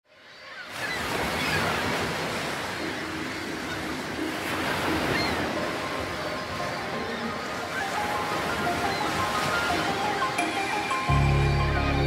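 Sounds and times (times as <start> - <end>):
sea waves rushing: 0.7 - 12.0.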